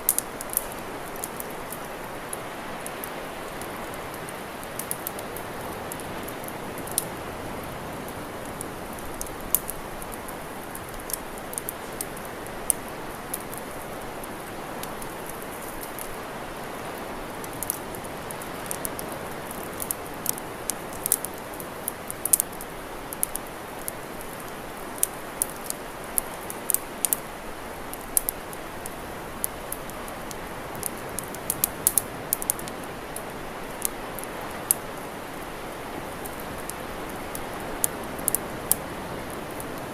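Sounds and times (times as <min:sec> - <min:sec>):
campfire crackling and popping: 0:00.0 - 0:39.9
rushing hiss of fire: 0:00.0 - 0:39.9.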